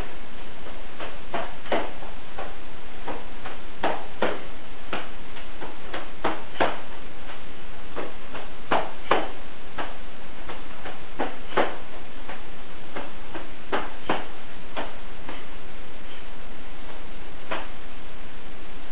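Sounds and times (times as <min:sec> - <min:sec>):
steady hiss: 0:00.0 - 0:18.9.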